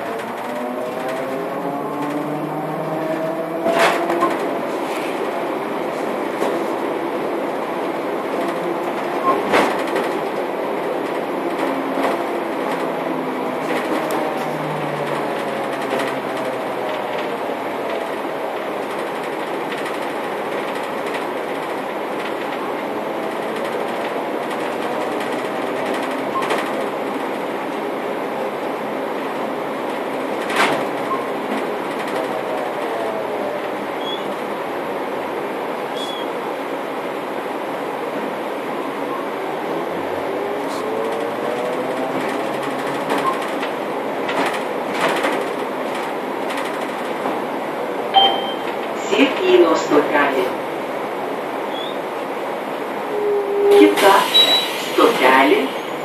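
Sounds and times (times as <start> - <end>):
trolleybus running noise: 0.0 - 56.0.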